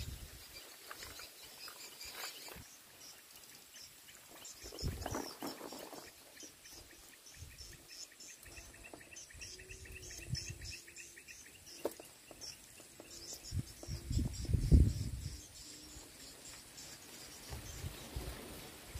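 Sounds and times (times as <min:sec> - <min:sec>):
insects chirping: 0:00.0 - 0:18.9.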